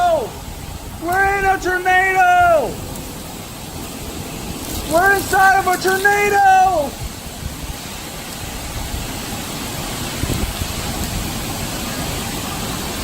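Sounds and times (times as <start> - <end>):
storm wind rushing: 0.0 - 13.0
wind buffeting microphone: 0.0 - 13.0.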